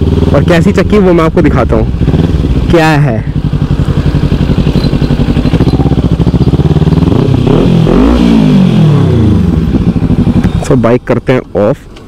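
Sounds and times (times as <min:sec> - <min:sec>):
motorcycle engine revving: 0:00.0 - 0:11.1.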